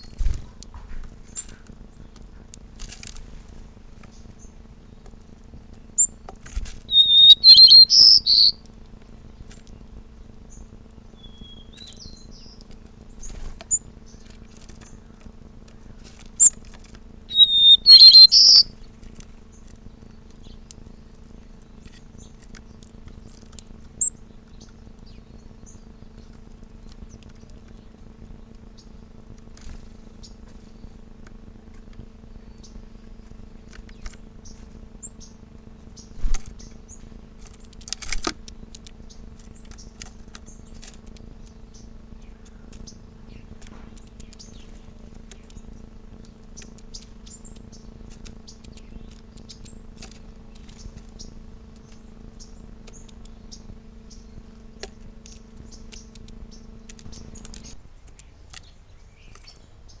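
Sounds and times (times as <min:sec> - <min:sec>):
low machine hum: 0:00.0 - 1:00.0
small birds chirping: 0:00.0 - 1:00.0.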